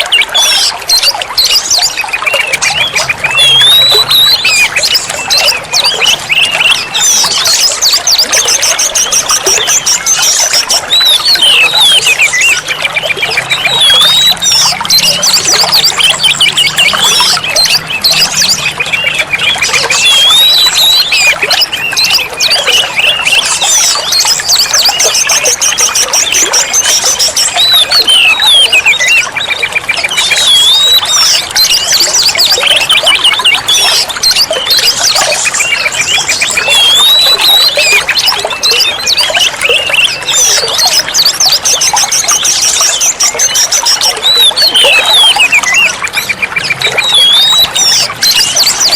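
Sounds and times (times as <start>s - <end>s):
magpie-robin singing: 0.0s - 48.9s.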